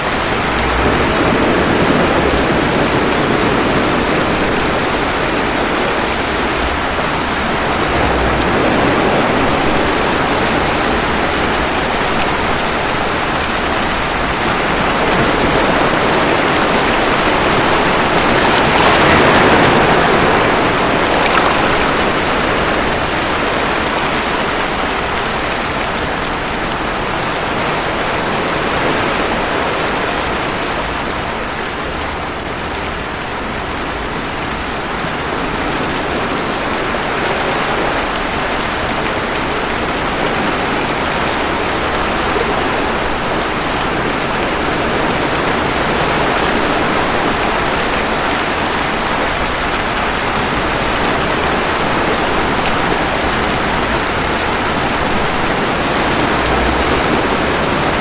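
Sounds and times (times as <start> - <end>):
ocean waves washing ashore: 0.0 - 58.0
steady rain falling: 0.0 - 58.0.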